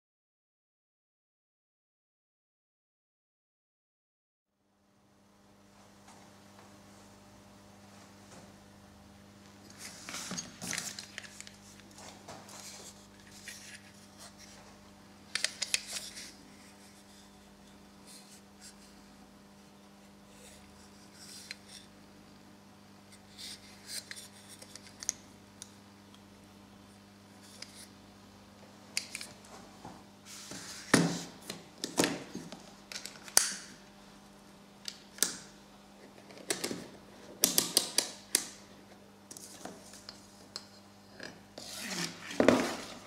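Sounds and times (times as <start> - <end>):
faint steady hum: 4.6 - 43.0.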